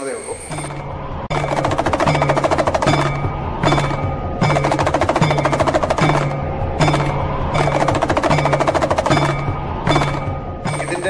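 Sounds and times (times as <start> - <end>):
fast rattling percussion: 0.5 - 11.0.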